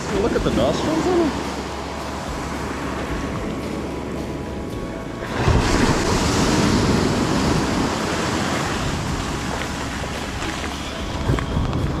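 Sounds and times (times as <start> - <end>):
surf washing up a sandy beach: 0.0 - 12.0.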